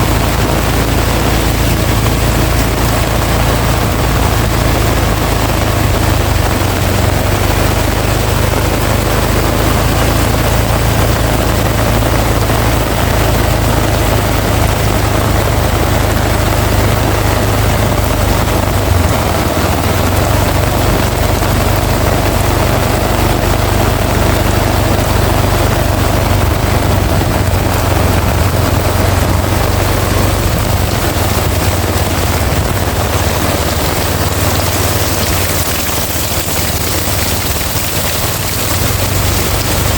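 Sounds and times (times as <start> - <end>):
heavy rain pouring: 0.0 - 39.9
low rumble: 0.0 - 39.9.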